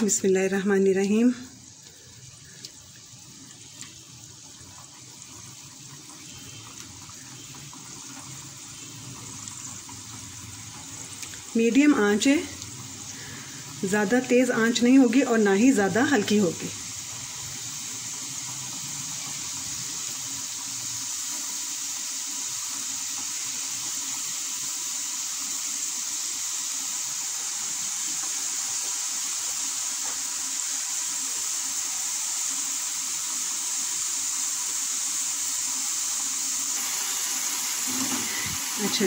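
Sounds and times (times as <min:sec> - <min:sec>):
dough deep-frying in hot oil: 0:00.0 - 0:39.0.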